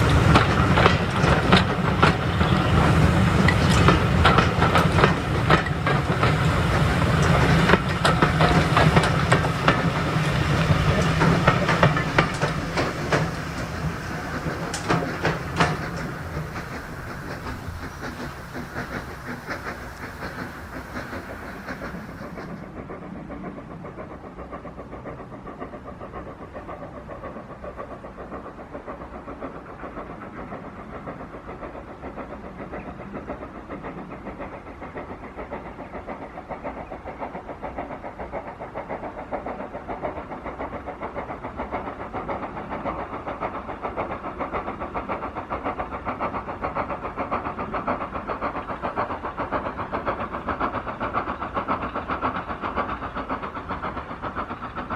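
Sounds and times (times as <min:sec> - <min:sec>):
steam locomotive exhaust beats: 0:00.0 - 0:54.9.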